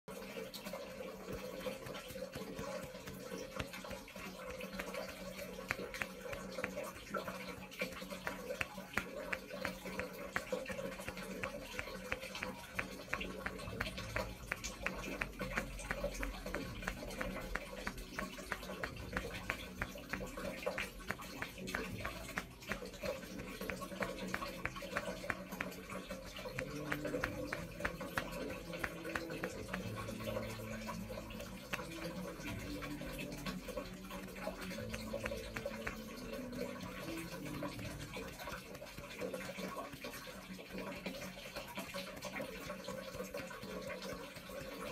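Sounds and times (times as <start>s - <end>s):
fingers rubbing skin clicks: 1.4s - 39.4s.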